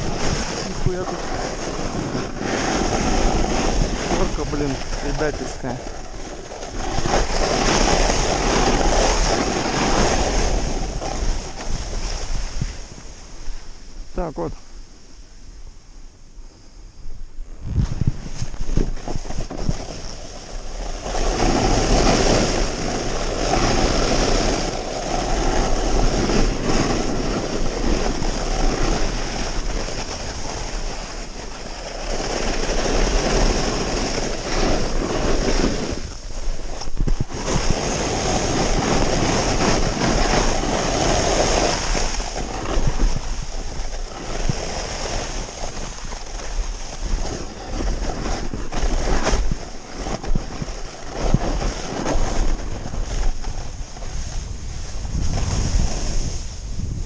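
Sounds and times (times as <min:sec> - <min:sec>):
snowboard scraping through snow: 0:00.0 - 0:15.2, 0:16.5 - 0:57.0
wind on microphone: 0:00.0 - 0:57.0.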